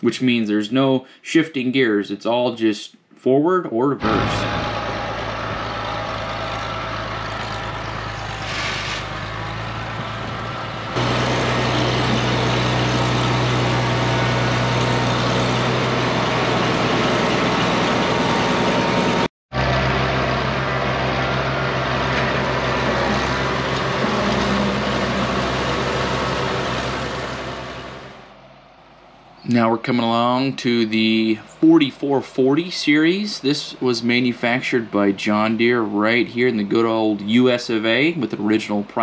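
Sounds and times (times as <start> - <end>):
tractor engine running: 4.0 - 39.0.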